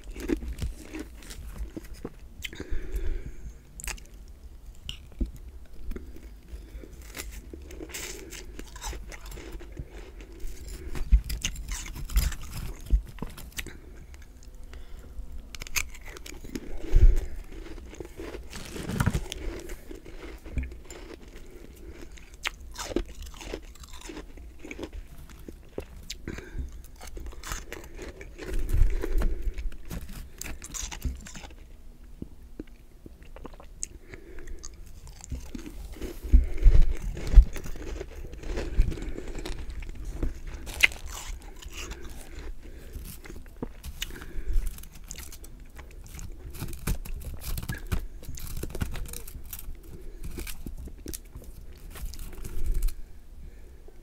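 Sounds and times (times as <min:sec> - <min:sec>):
chewing crunchy frost: 0:00.0 - 0:03.0, 0:03.8 - 0:31.7, 0:32.6 - 0:53.0.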